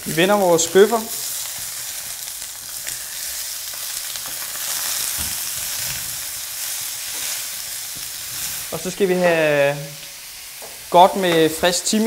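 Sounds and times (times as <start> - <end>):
steaks sizzling in frying pan: 0.0 - 12.0.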